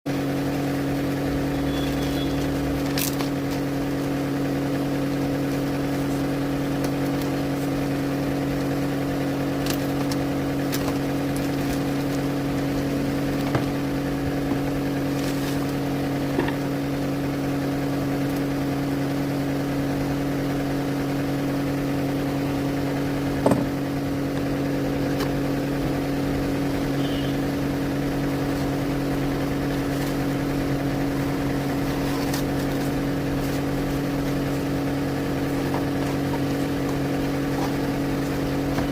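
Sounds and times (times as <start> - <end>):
machine hum: 0.1 - 38.9.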